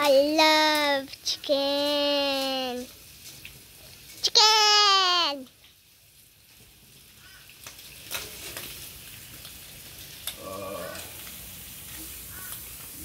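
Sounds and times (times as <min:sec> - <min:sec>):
bacon sizzling: 0:00.0 - 0:13.0
fat crackling and popping: 0:00.0 - 0:13.0.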